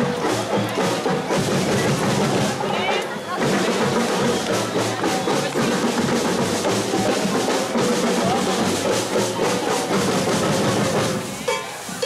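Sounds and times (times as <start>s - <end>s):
bass drum beat: 0.0s - 11.7s
snare drum rolls: 0.0s - 12.0s.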